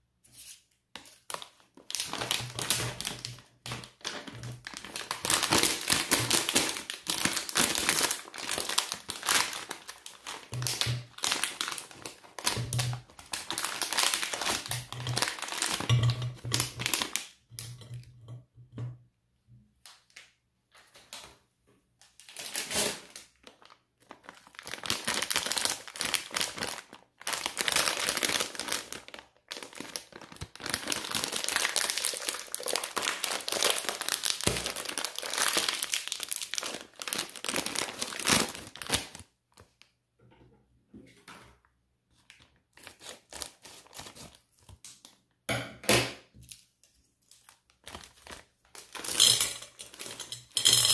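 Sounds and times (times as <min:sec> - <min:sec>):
sweet wrapper crinkling: 0:00.5 - 0:17.9, 0:22.0 - 0:39.9, 0:42.1 - 0:45.3, 0:46.4 - 0:50.9
plastic bag crinkling: 0:01.0 - 0:17.4, 0:22.2 - 0:39.8, 0:42.2 - 0:45.2, 0:46.5 - 0:50.9.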